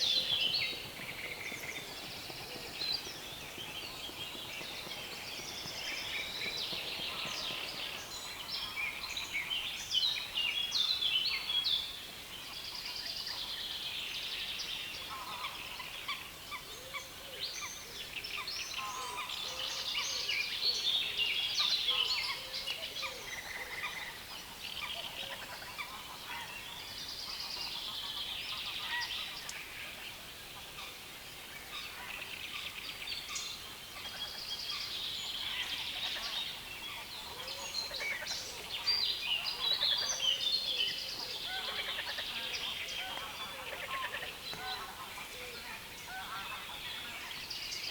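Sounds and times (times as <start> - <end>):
chorus of birds singing: 0.0 - 47.9.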